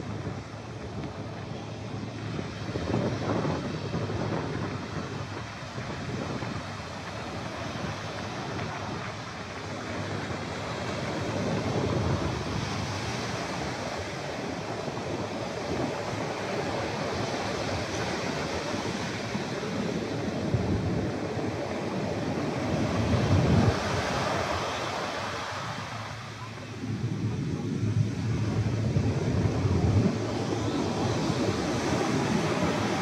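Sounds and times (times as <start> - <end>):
surf breaking on beach: 0.0 - 33.0
wind rumble on microphone: 0.0 - 33.0.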